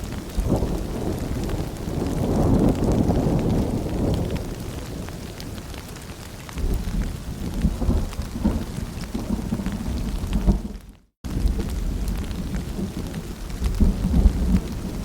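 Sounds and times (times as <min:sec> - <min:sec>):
rolling thunder rumble: 0:00.0 - 0:05.8, 0:06.5 - 0:15.0
steady rain: 0:00.0 - 0:15.0.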